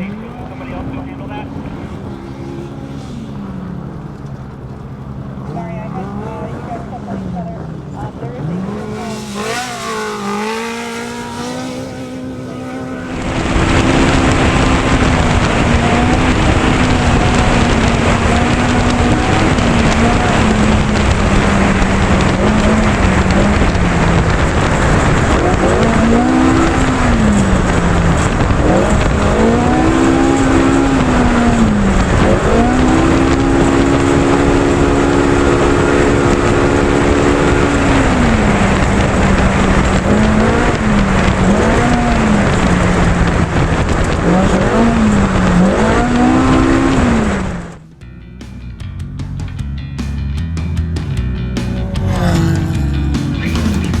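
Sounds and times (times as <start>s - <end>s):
loud steady rushing noise: 0.0s - 48.0s, 51.1s - 54.0s
engine revving: 0.0s - 48.6s, 50.0s - 54.0s.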